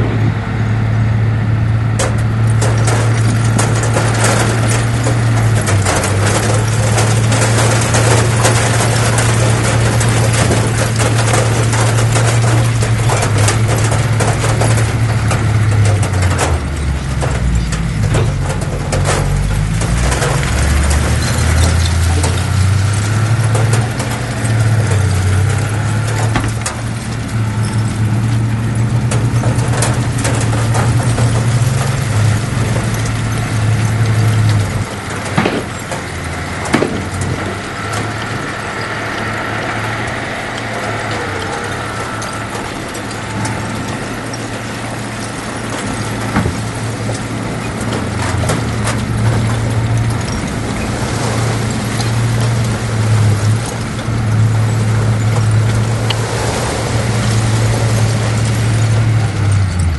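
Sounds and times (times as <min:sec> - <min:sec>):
diesel machinery engine drone: 0:00.0 - 0:59.9
metallic knocks and clanks: 0:02.0 - 0:56.3.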